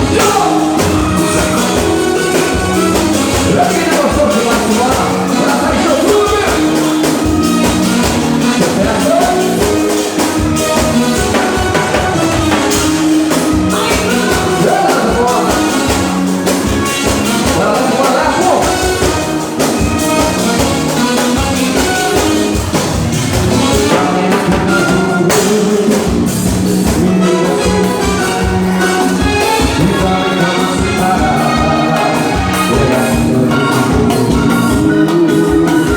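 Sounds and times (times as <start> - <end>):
upbeat dance music with singing: 0.0 - 10.2, 12.5 - 22.2, 23.4 - 35.9.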